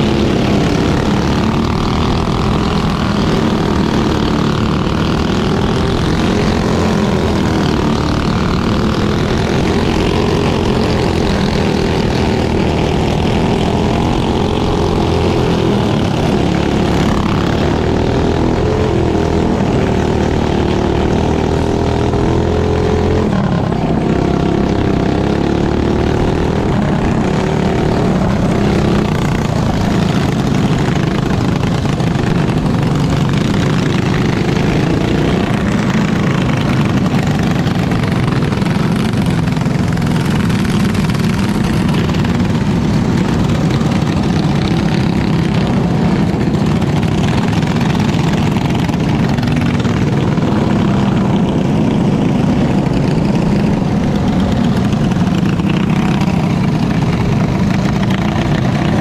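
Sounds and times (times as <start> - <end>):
kart engine revving: 0.0 - 59.0
other kart engines: 0.0 - 59.0.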